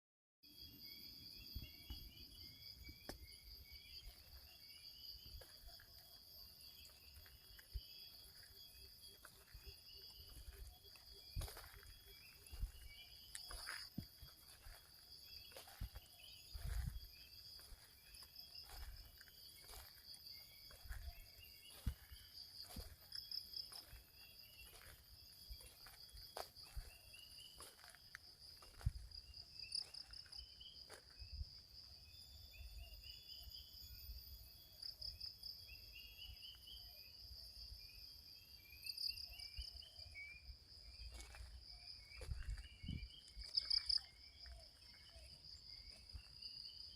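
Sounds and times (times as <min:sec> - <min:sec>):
insects trilling drone: 0:00.5 - 0:46.9.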